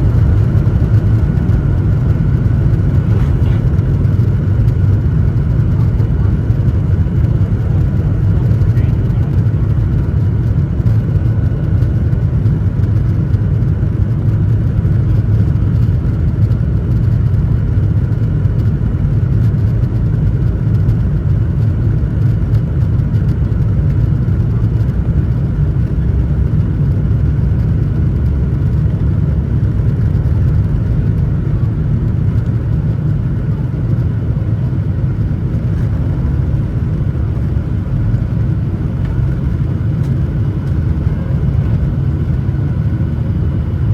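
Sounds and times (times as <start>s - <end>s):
faint steady whine: 0.0s - 43.9s
jet engines rumbling in cabin: 0.0s - 43.9s.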